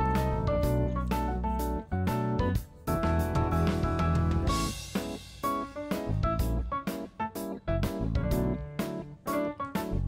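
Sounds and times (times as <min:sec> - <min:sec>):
steady drum beat: 0:00.0 - 0:09.2.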